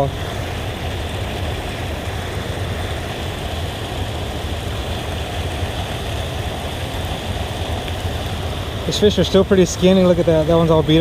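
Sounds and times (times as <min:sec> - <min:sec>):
river water pouring over weir: 0:00.0 - 0:11.0.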